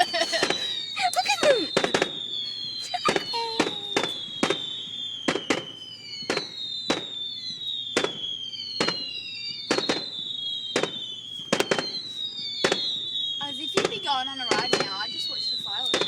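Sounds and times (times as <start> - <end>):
firework bangs: 0.0 - 16.0
firework whistles sliding down: 0.0 - 16.0.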